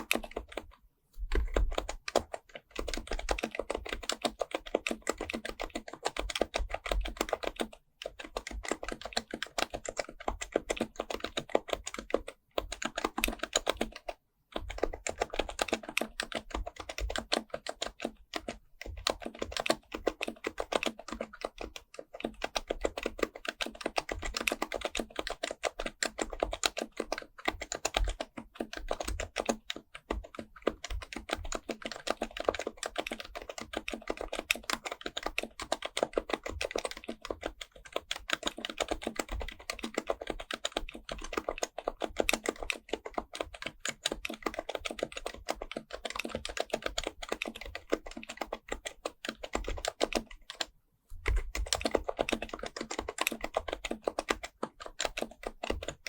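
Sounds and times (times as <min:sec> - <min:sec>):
fast typing on keyboard: 0:00.0 - 0:56.0.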